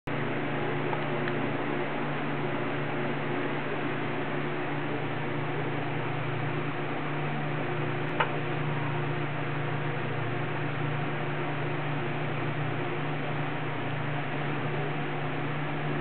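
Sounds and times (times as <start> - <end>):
low hum: 0.1 - 16.0.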